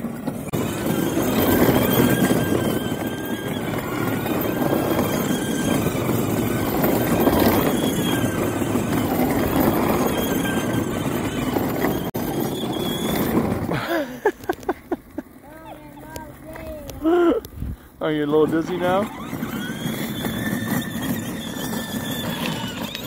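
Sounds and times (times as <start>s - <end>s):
electric motors whining: 0.0s - 15.2s, 18.3s - 23.0s
plastic wheels rolling on pavement: 0.0s - 23.0s.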